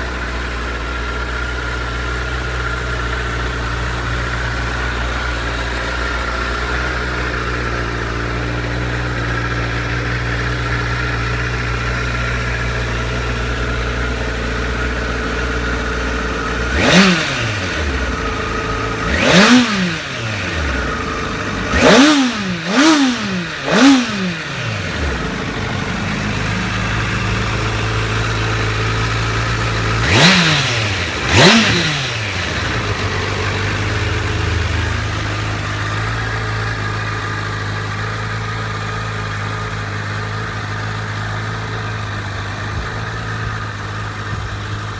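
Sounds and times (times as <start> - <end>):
engine throttle blips: 0.0 - 44.9
motorcycle engine idling: 0.0 - 44.9.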